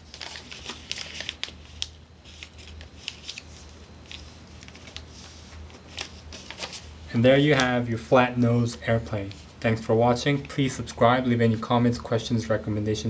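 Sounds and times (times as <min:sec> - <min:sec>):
paper folding crackles: 0:00.0 - 0:11.0.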